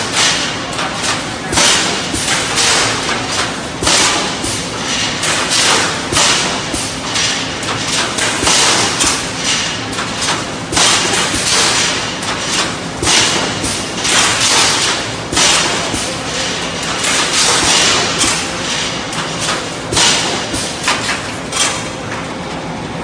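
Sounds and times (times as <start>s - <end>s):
welding machine hissing crackle: 0.0s - 21.2s.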